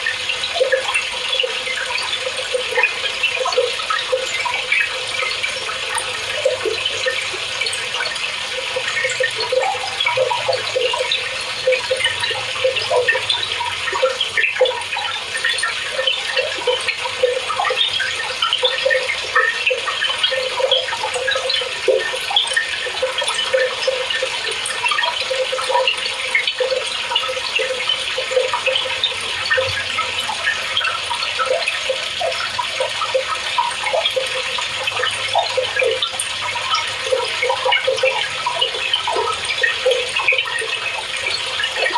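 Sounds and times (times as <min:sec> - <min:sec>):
water pouring into washer tub: 0:00.0 - 0:41.9.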